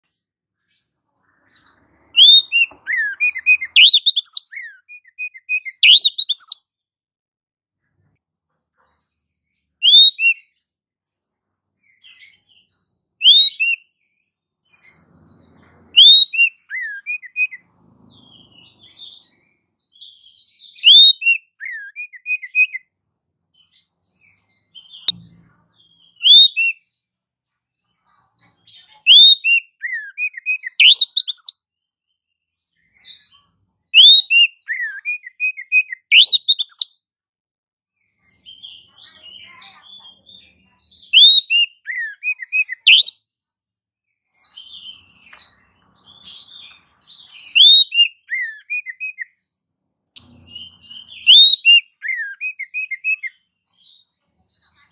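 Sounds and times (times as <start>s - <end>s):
songbird calls with chirps: 0.6s - 6.7s, 8.8s - 10.8s, 11.8s - 22.8s, 23.6s - 27.2s, 27.8s - 31.6s, 32.8s - 37.0s, 38.0s - 43.3s, 44.3s - 54.9s.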